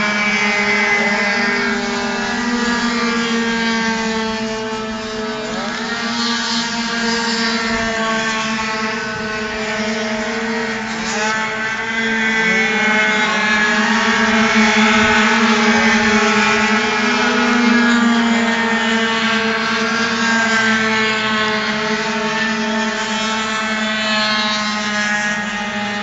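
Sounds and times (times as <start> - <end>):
scooter engines revving: 0.0 - 26.0.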